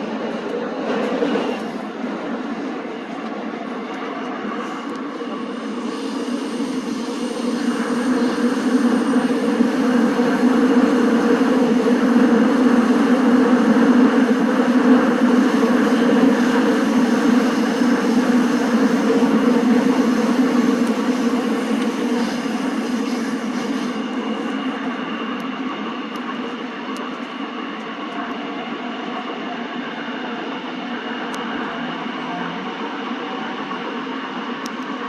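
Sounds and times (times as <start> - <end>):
subway train rumble: 0.0 - 35.0.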